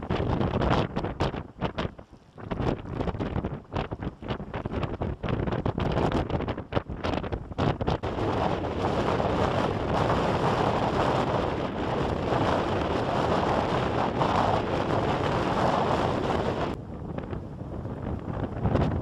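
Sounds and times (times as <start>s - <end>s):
storm wind on microphone: 0.0s - 19.0s.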